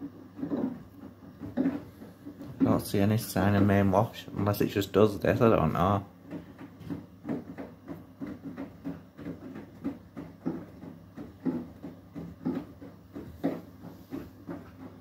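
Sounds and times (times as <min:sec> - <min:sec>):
laundry and water sloshing in drum: 0:00.0 - 0:15.0
washing machine hum: 0:00.0 - 0:15.0.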